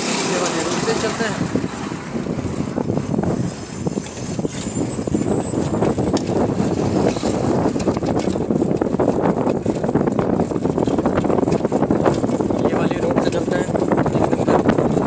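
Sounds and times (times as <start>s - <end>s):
motorcycle running: 0.0s - 15.0s
wind buffeting microphone: 0.0s - 15.0s.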